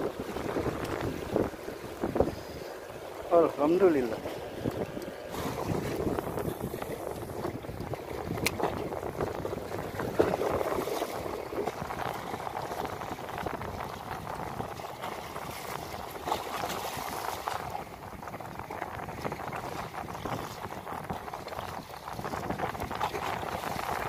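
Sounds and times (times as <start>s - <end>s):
waves lapping against seawall: 0.0s - 24.0s.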